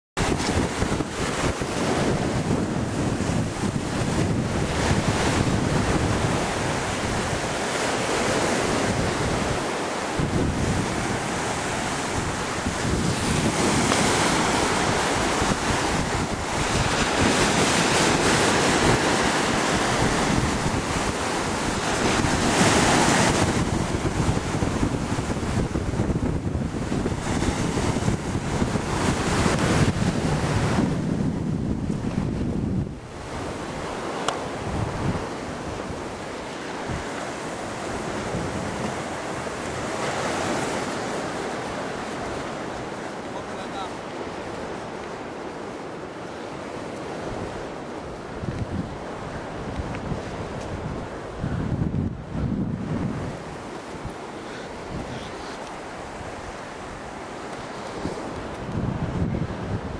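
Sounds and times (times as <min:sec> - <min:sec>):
wind buffeting microphone: 0:00.2 - 0:43.3, 0:44.0 - 0:59.9
ocean surf breaking: 0:00.2 - 0:59.9.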